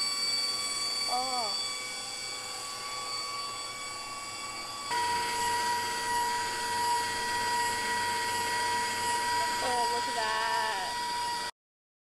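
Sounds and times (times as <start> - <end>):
stand mixer motor whine: 0.0 - 11.5.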